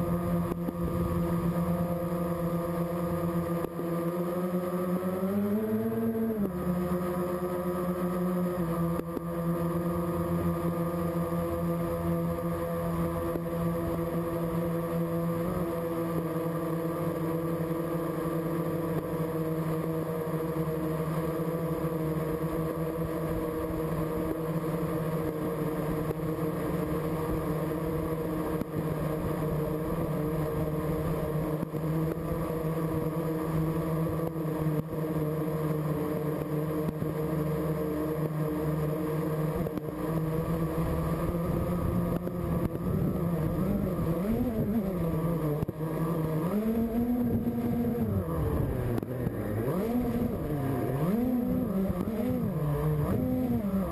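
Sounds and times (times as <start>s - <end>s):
model aircraft motor and propeller: 0.0s - 53.9s.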